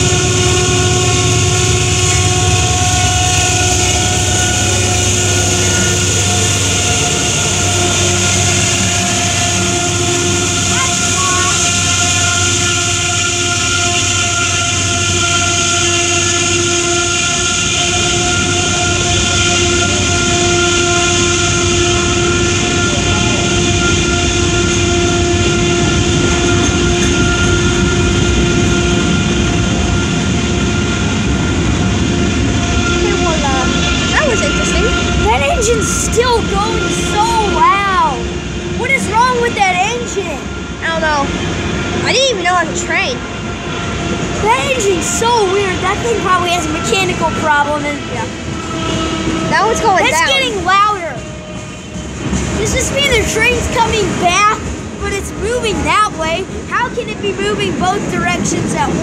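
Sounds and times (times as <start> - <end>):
diesel locomotive passing: 0.0 - 59.0
low train rumble: 0.0 - 59.0
steady whining tones: 0.0 - 59.0.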